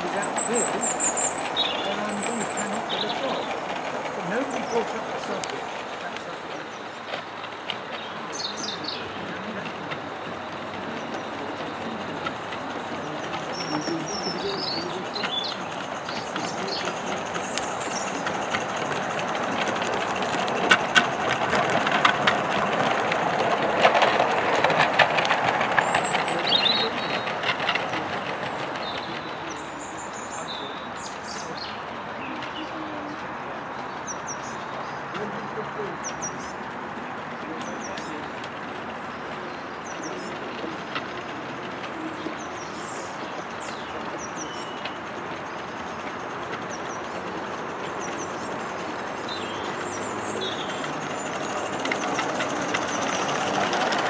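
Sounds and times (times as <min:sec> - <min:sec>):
bird chirping: 0:00.0 - 0:54.0
model steam train running: 0:00.0 - 0:54.0
wheels clicking over rail joints: 0:00.0 - 0:54.0.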